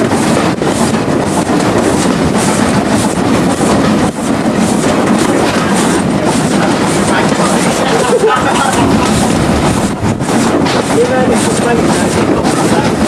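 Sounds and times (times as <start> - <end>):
train coach running noise: 0.0 - 13.0
wheels clattering over rails: 0.0 - 13.0.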